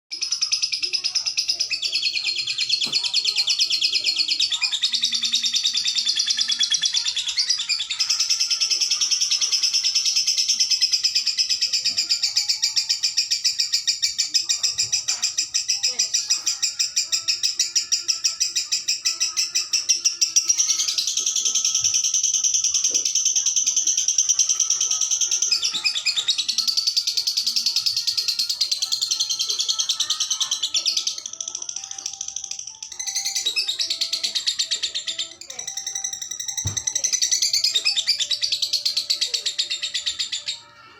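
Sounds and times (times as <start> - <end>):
lovebird chattering trill: 0.1 - 40.7.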